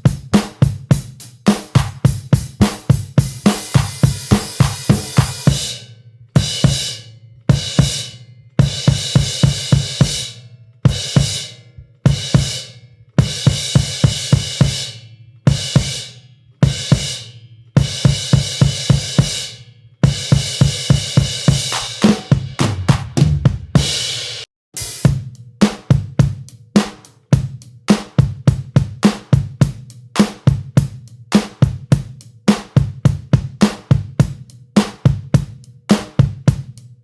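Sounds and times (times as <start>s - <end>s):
drum kit background music: 0.0s - 5.8s, 6.4s - 37.0s.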